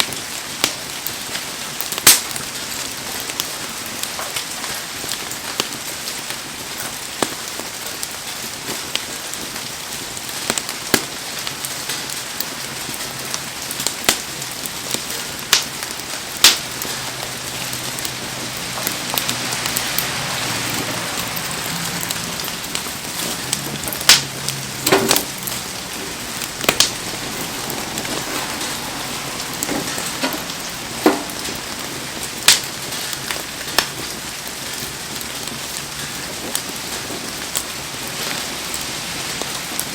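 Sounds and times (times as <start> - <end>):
bonfire crackling and popping: 0.0 - 39.9
heavy rain falling: 0.0 - 39.9.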